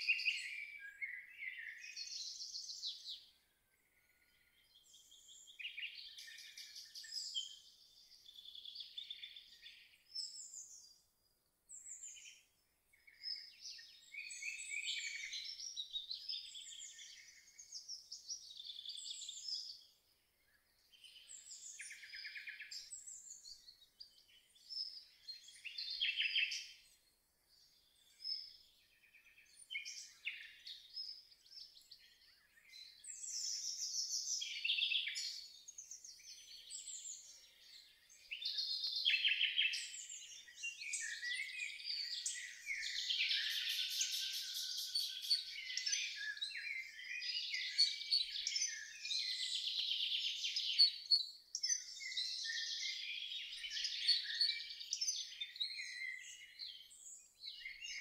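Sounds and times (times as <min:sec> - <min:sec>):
songbirds singing and calling: 0:00.0 - 0:58.0.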